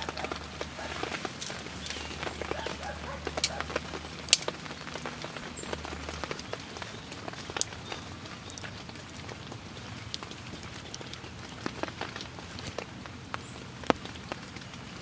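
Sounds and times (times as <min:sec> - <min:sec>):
raindrops ticking close by: 0:00.0 - 0:15.0
steady rain falling: 0:00.0 - 0:15.0.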